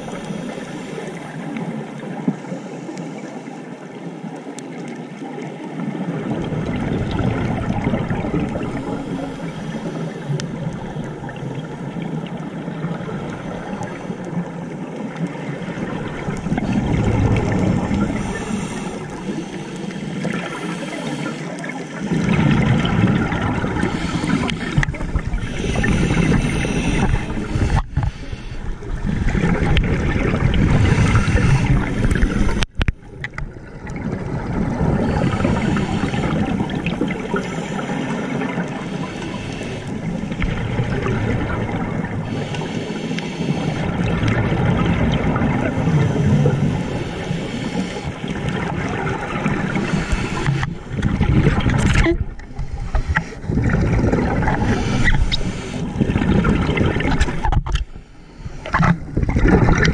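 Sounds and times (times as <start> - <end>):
diver regulator bubbles gurgling: 0.0 - 59.9.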